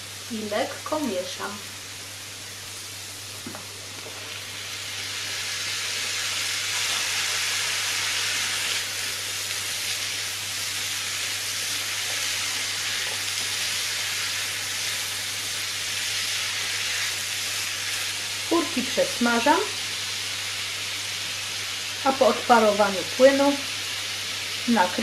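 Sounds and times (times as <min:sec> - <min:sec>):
mushrooms sizzling in a frying pan: 0:00.0 - 0:25.0.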